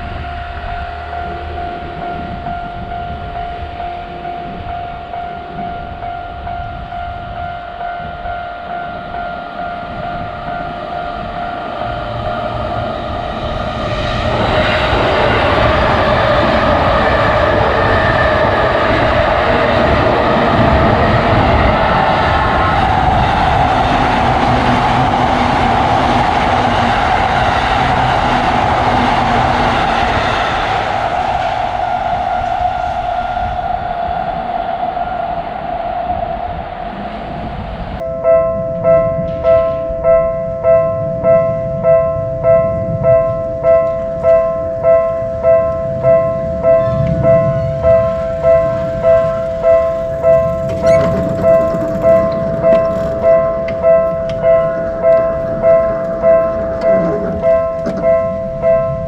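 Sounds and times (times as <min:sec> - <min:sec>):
passing train rumble: 0:00.0 - 0:59.0
railroad crossing alarm: 0:00.0 - 0:59.0
steady tone: 0:00.0 - 0:59.0.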